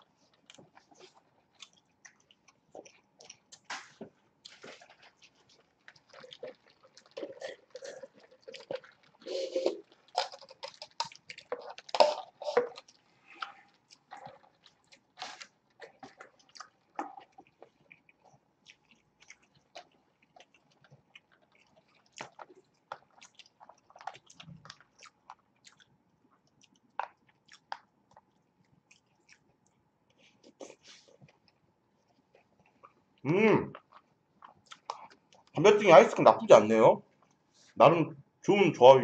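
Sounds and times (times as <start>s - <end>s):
wet chewing and smacking: 0.0s - 35.6s.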